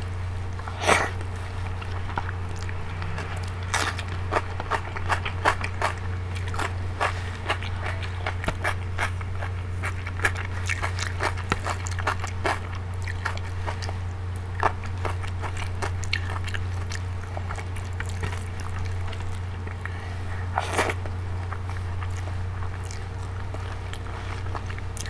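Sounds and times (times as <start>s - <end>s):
steady low hum: 0.0s - 25.0s
person chewing: 0.5s - 25.0s.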